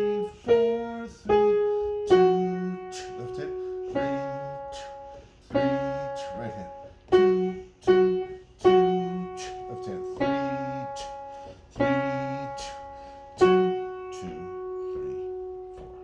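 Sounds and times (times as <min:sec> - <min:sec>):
piano playing simple tune: 0:00.0 - 0:16.0.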